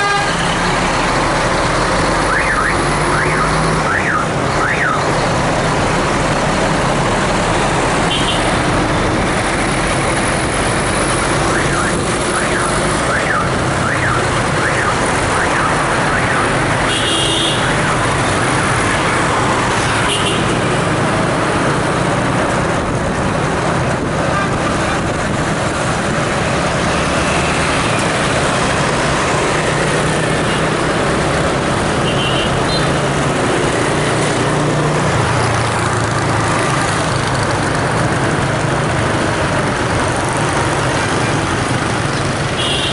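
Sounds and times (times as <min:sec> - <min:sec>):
road traffic noise: 0:00.0 - 0:42.9.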